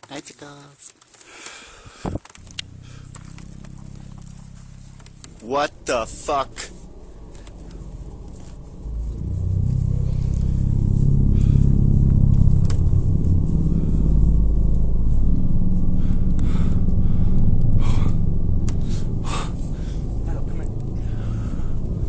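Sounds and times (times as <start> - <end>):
low rumbling drone: 1.8 - 22.0.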